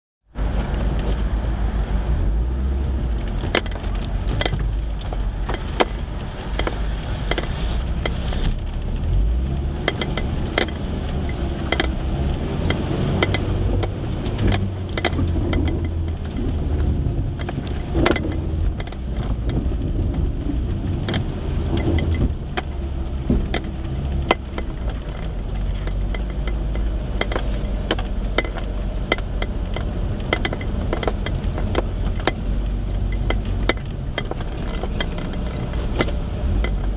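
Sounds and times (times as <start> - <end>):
engine rumble: 0.2 - 36.9
vehicle knocks and rattles: 2.5 - 36.9.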